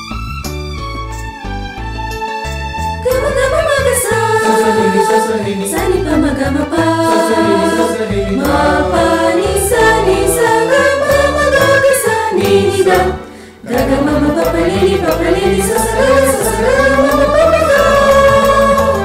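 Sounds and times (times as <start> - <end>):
instrumental accompaniment: 0.0 - 19.0
choir singing in harmony: 3.1 - 19.0.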